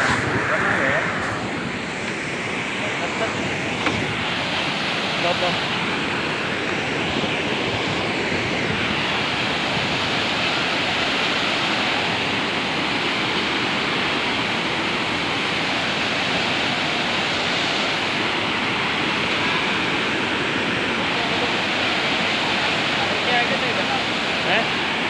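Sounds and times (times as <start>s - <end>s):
waterfall crashing over rocks: 0.0s - 25.0s.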